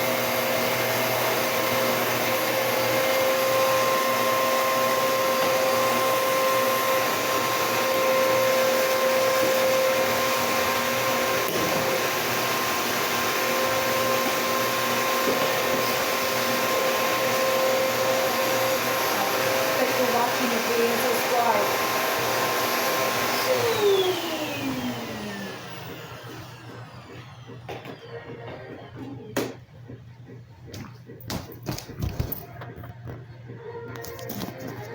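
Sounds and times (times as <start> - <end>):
vacuum cleaner whining: 0.0 - 30.4.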